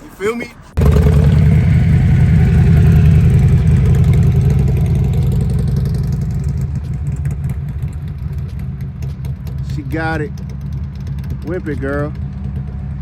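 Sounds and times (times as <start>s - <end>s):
motorcycle engine low rumble: 0.7s - 13.0s.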